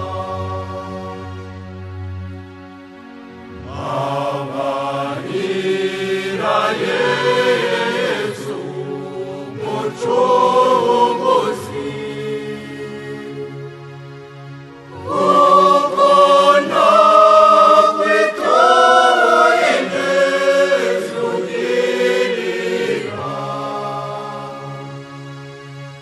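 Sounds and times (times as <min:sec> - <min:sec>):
choir singing a hymn: 0:00.0 - 0:02.0, 0:03.3 - 0:14.1, 0:14.8 - 0:26.0.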